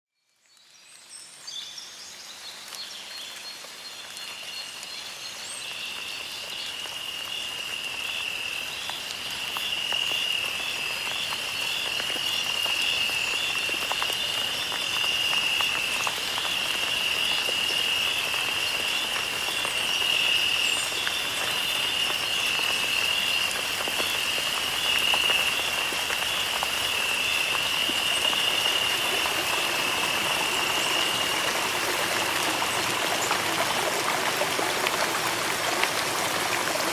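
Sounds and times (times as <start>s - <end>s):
running water: 6.1s - 36.9s.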